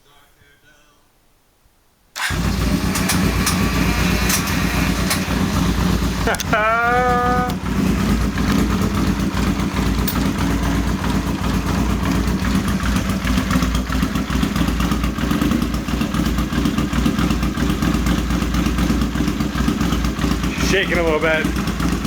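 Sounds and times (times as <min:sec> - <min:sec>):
motorcycle engine idling rough: 0:02.2 - 0:22.0.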